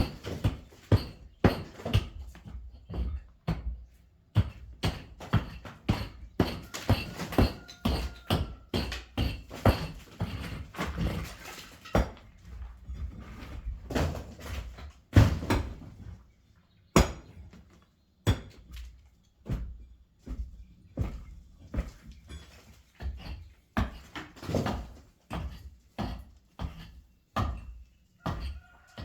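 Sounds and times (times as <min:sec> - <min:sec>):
brick wall demolition knocks: 0:00.0 - 0:16.1, 0:17.0 - 0:17.5, 0:18.2 - 0:29.0.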